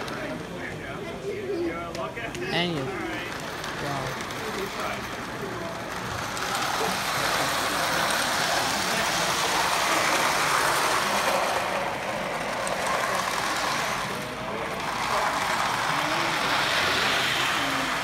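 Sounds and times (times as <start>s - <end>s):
model train wheels rumbling: 1.9s - 18.0s.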